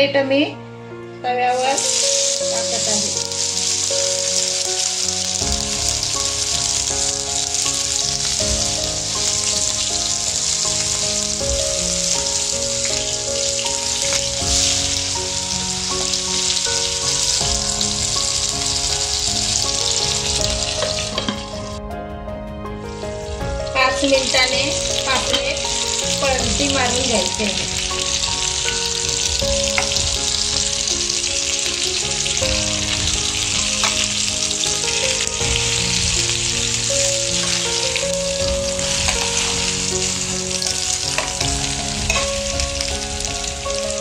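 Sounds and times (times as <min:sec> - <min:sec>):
soft instrumental music: 0:00.0 - 0:44.0
fish sizzling in hot oil: 0:01.5 - 0:21.8, 0:23.2 - 0:44.0.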